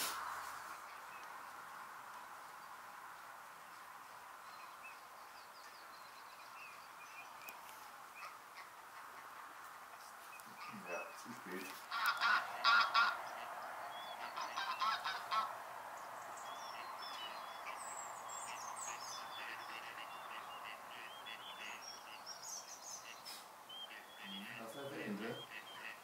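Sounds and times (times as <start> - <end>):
small birds chirping faintly: 0.0 - 26.0
steady background noise: 0.0 - 26.0
loud bird calls: 4.5 - 26.0.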